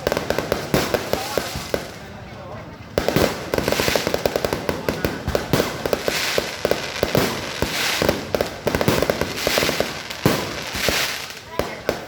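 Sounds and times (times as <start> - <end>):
fireworks hissing: 0.0 - 2.1, 3.0 - 12.0
fireworks bangs and crackles: 0.0 - 12.0.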